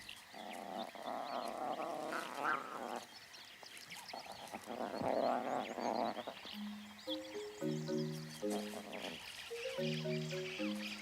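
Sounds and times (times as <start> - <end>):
wild birds chirping: 0.0 - 11.0.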